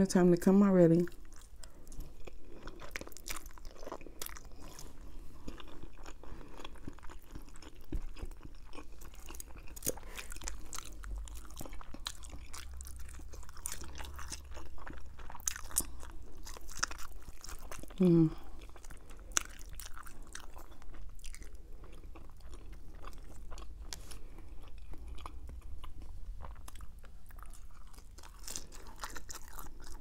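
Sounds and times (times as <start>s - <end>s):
close-up chewing and mouth smacking: 1.0s - 30.0s.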